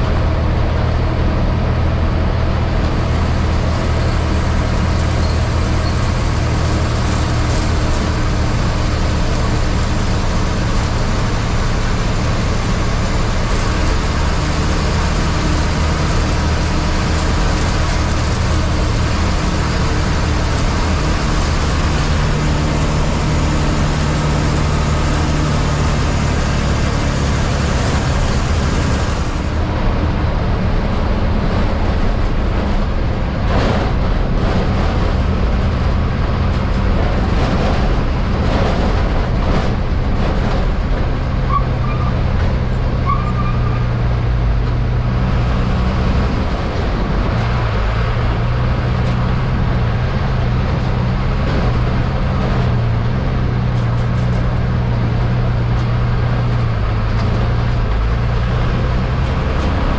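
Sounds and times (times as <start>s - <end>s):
bus diesel engine humming: 0.0s - 59.9s
road and tyre noise: 0.0s - 59.9s.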